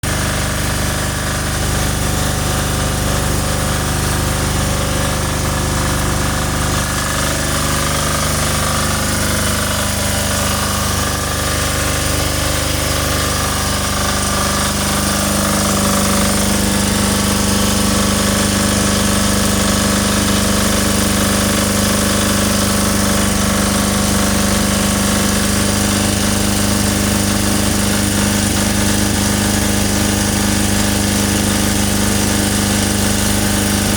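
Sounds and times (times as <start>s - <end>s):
generator engine droning: 0.0s - 33.9s.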